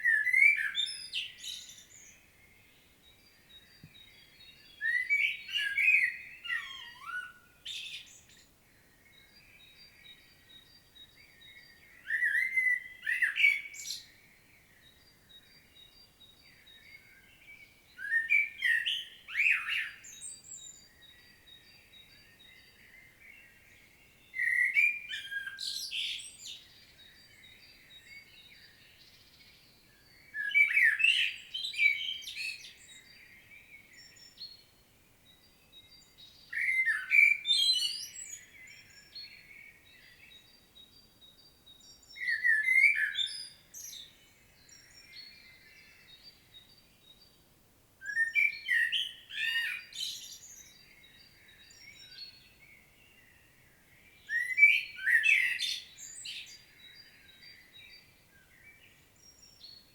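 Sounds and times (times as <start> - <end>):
blackbird singing: 0.0 - 47.4, 48.0 - 59.9.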